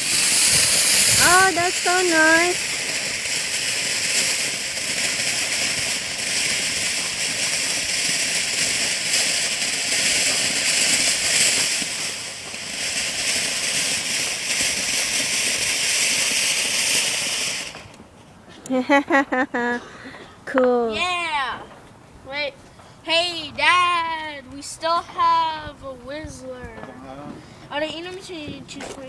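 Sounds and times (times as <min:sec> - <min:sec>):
firework fountain hissing: 0:00.0 - 0:20.2, 0:21.0 - 0:29.0.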